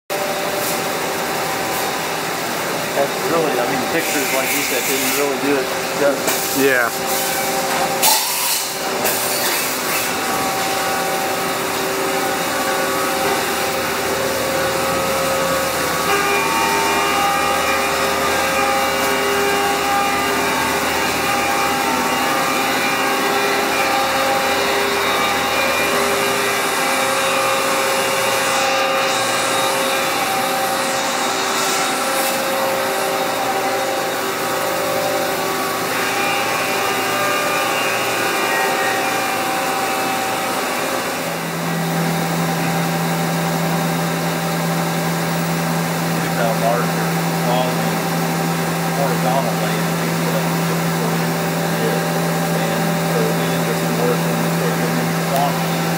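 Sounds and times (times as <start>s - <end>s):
machine whirring: 0.1s - 55.9s.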